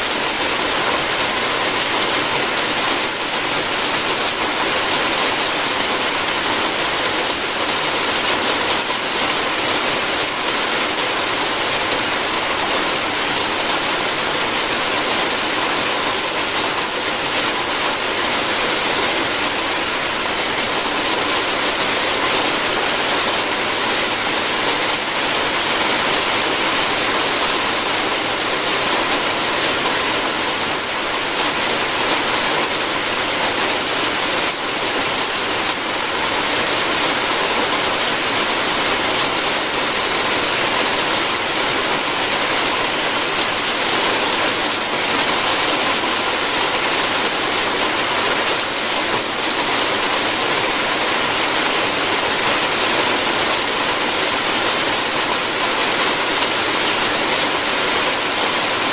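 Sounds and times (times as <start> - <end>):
rain falling on a roof: 0.0 - 58.9.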